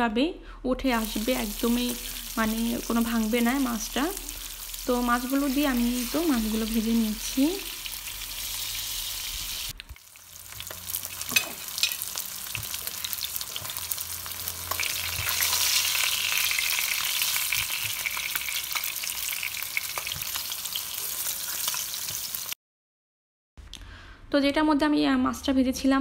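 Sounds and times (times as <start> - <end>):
fish sizzling in a frying pan: 1.0 - 22.6.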